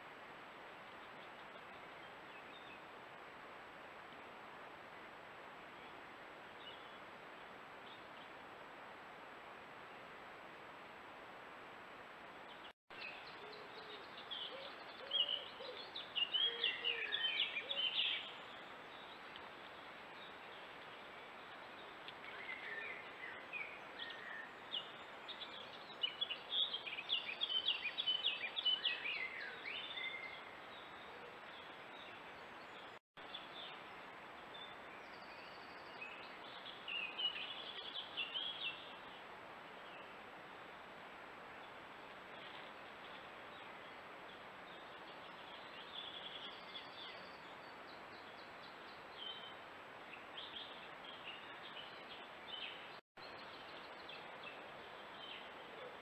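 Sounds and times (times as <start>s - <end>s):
microphone hiss: 0.0s - 56.0s
songbirds chirping: 0.0s - 56.0s.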